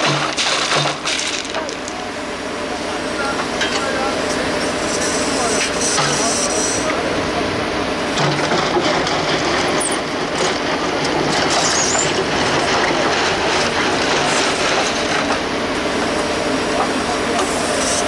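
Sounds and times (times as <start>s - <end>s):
diesel engine and hydraulics running: 0.0s - 18.0s.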